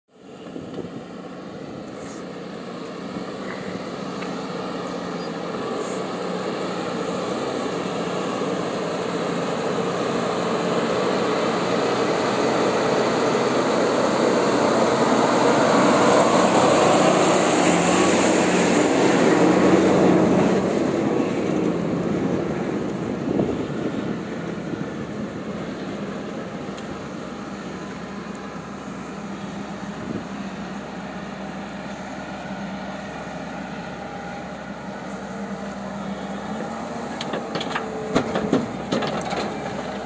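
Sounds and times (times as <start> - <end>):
excavator engine hum: 0.1 - 40.0
truck driving past: 0.1 - 40.0.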